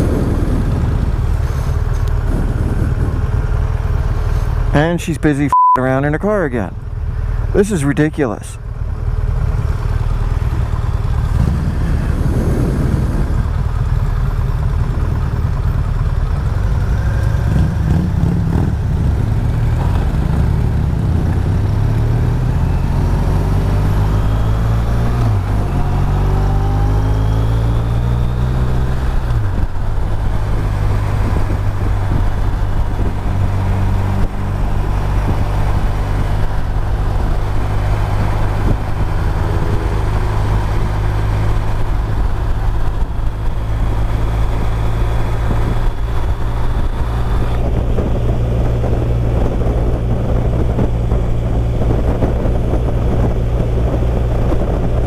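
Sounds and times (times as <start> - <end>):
motorcycle engine accelerating: 0.0 - 4.8, 8.7 - 55.0.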